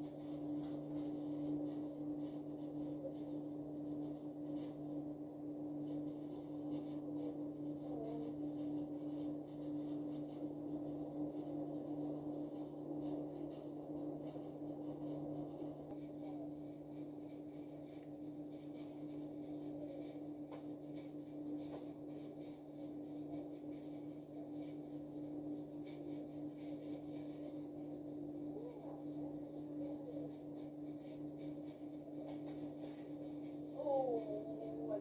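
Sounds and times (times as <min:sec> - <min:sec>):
faint room noise: 0:00.0 - 0:35.0
steady low hum: 0:00.0 - 0:35.0.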